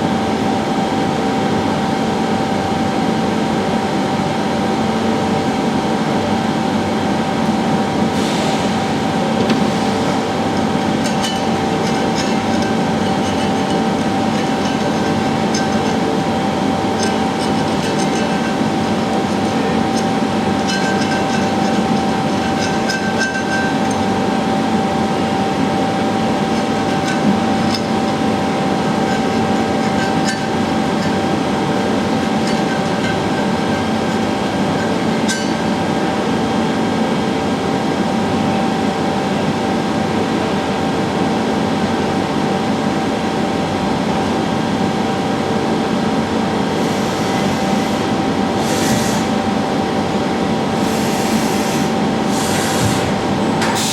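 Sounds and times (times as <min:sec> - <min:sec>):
machine whine: 0:00.0 - 0:53.9.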